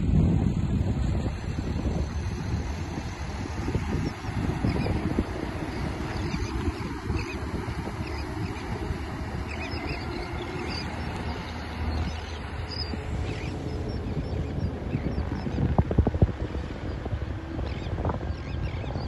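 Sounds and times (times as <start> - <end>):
distant outboard engine: 0.0 - 19.0
wind rumbling on microphone: 0.0 - 19.0.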